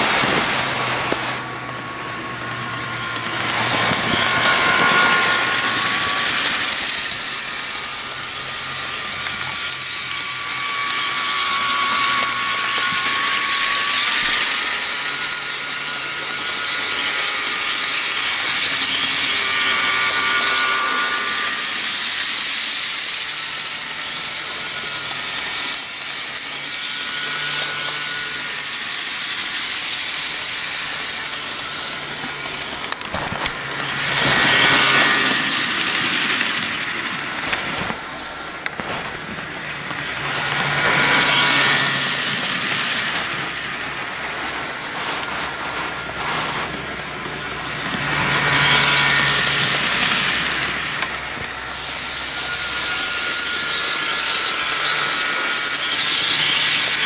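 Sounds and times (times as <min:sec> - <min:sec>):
model train motor whining: 0:00.0 - 0:57.0.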